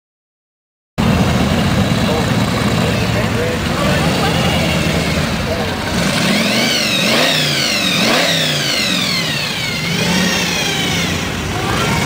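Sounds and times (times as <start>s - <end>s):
hot rod engine revving: 1.0s - 12.0s.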